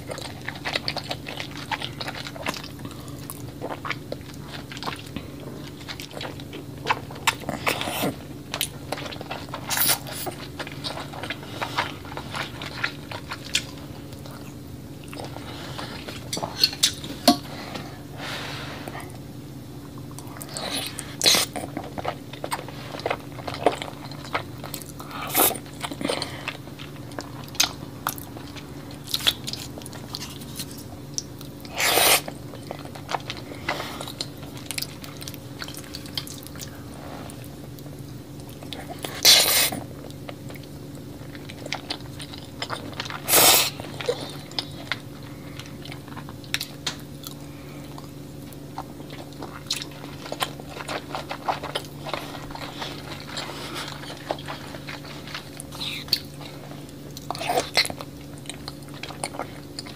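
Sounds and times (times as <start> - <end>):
chewing and wet mouth sounds: 0.0 - 17.9, 19.8 - 59.9.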